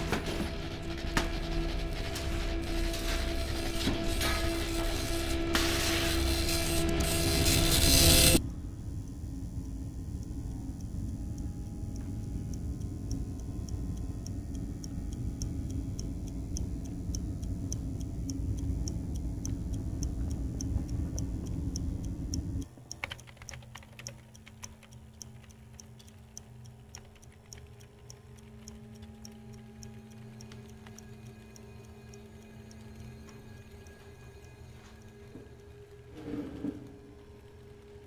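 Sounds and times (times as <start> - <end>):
clock-like ticking: 0.0 - 36.1
faint steady hum: 0.0 - 38.0.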